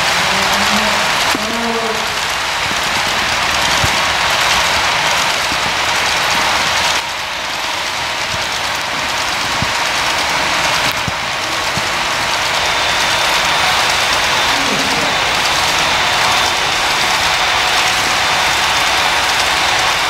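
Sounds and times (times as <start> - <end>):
busy hall background noise: 0.0 - 20.0
model train wheels rumbling: 0.0 - 20.0.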